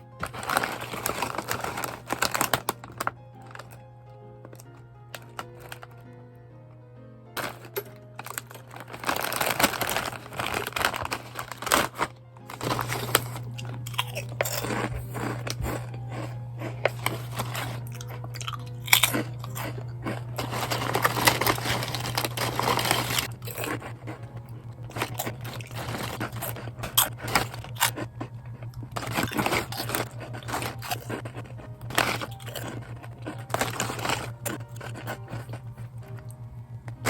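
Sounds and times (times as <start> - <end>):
crunching corn snacks: 0.0 - 6.1, 7.4 - 37.0
steady low hum: 0.0 - 37.0.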